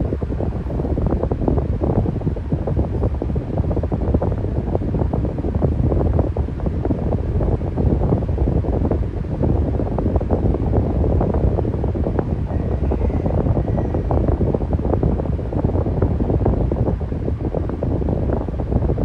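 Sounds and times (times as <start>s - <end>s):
air buffeting microphone: 0.0s - 19.0s
electric fan running: 0.0s - 19.0s.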